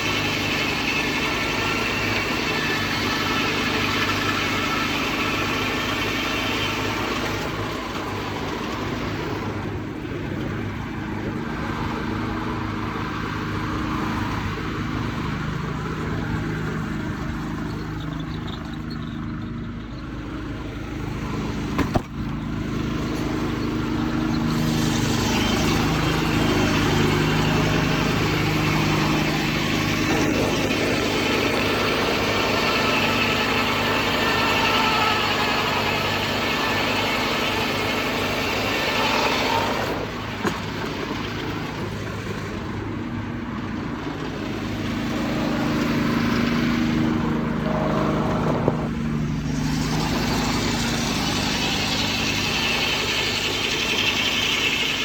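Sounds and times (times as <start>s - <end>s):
muffled diesel engine running: 0.0s - 55.0s.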